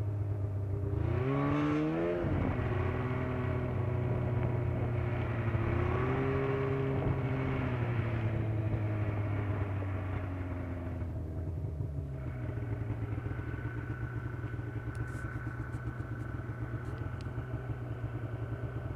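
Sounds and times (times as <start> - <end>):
snowmobile engine running: 0.2 - 18.9.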